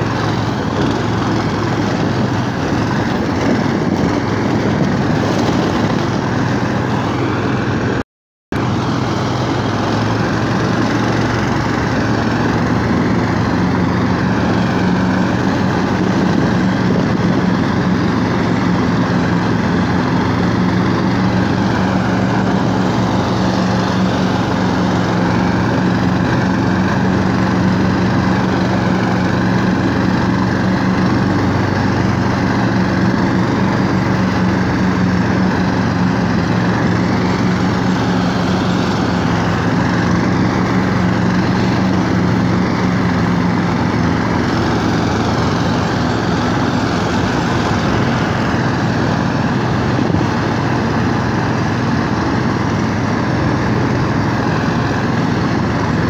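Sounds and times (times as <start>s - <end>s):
small petrol engine running: 0.0s - 8.0s, 8.6s - 56.0s.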